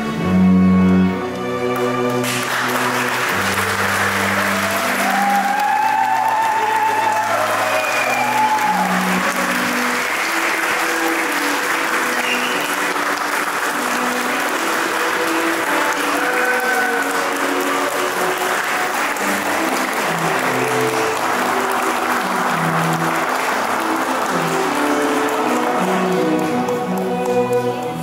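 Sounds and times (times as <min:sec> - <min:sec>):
string music with low notes: 0:00.0 - 0:28.0
crowd applauding: 0:01.6 - 0:28.0.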